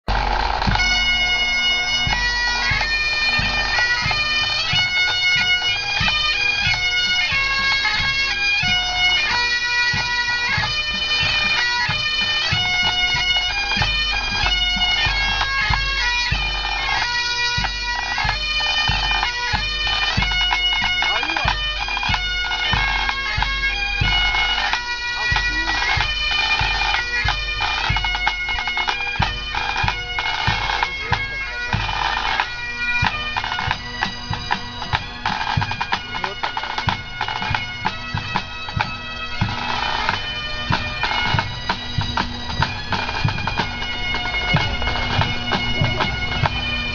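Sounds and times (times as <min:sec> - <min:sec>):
bagpipes playing marching tune: 0:00.1 - 0:46.9.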